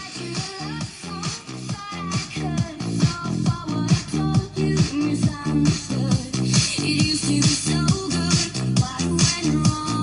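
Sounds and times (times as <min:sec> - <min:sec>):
disco dance music: 0:00.0 - 0:10.0.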